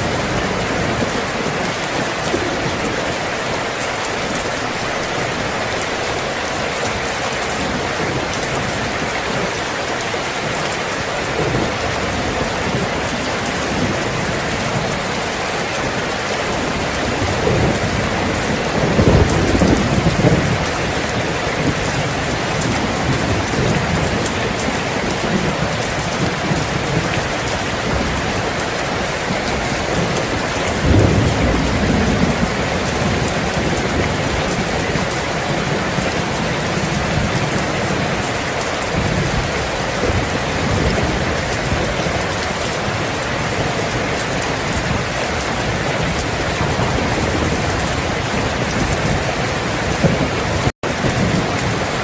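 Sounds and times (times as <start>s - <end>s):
steady rain falling: 0.0s - 52.0s
thunder rumbling: 0.0s - 52.0s.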